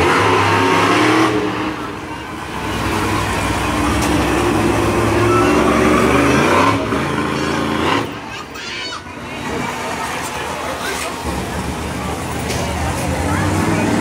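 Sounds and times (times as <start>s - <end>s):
truck engine revving hard: 0.0s - 8.4s, 9.2s - 14.0s.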